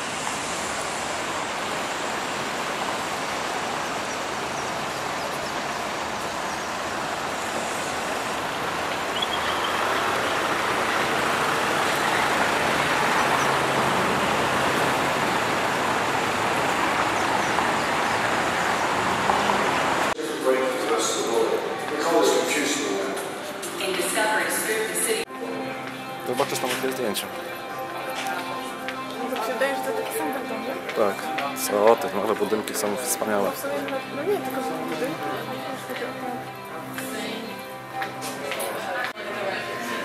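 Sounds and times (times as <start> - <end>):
road traffic rush: 0.0 - 20.2, 25.0 - 39.8.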